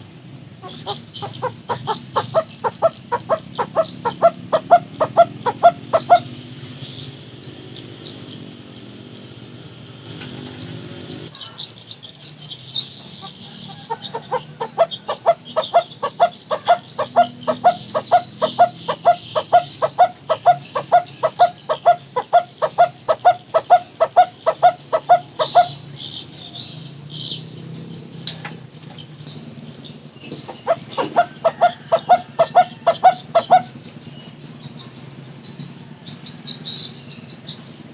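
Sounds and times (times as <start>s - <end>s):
bird calling hollow tuk notes: 0.0s - 37.9s
insects trilling: 0.0s - 37.9s.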